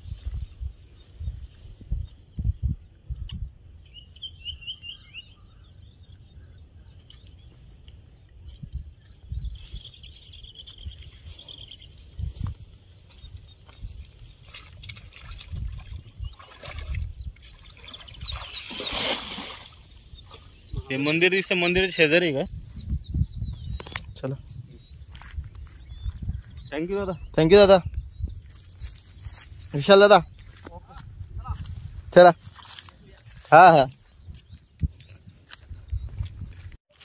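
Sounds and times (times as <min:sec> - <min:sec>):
wind buffeting the microphone: 0:00.0 - 0:36.8
small bird chirping: 0:00.0 - 0:37.0.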